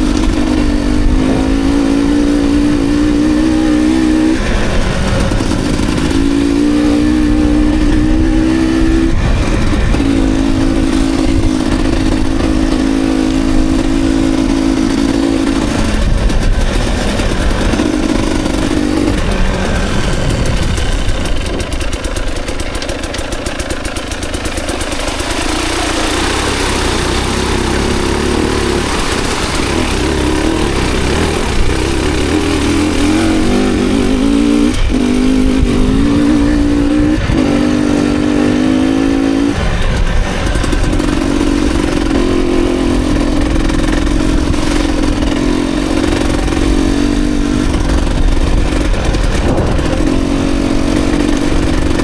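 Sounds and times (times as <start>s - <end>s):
dirt bike engine revving: 0.0s - 52.0s
steady rushing noise: 0.0s - 52.0s.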